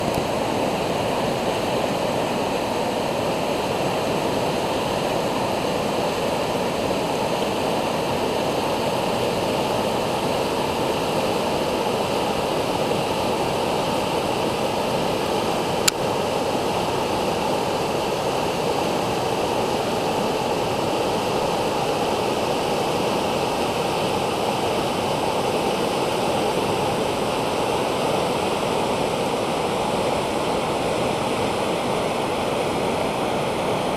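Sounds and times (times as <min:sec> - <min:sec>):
river rapids and waterfall rushing: 0:00.0 - 0:33.9.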